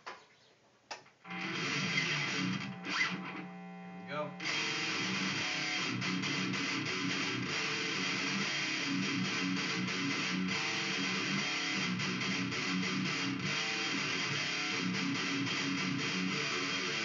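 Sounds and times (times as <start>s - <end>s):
distorted electric guitar riff: 1.2s - 17.0s.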